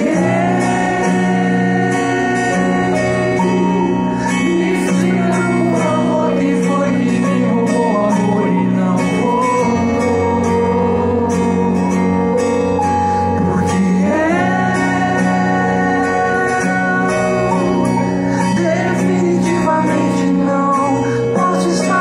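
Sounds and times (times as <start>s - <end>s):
person singing: 0.0s - 12.3s, 13.1s - 22.0s
guitar: 0.0s - 22.0s
keyboard chords: 0.0s - 22.0s.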